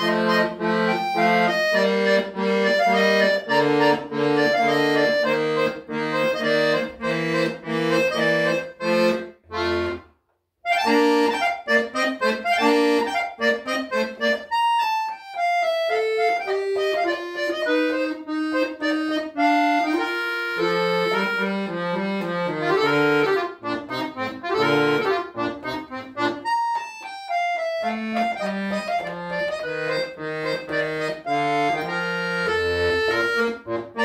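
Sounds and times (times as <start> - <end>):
solo accordion classical piece: 0.0 - 34.0.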